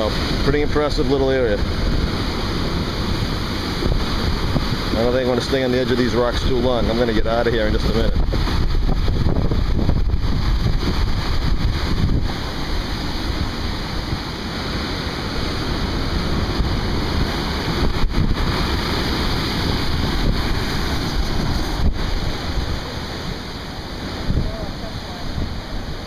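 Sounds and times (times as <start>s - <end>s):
ocean surf crashing on rocks: 0.0s - 26.0s
wind buffeting microphone: 0.0s - 26.0s.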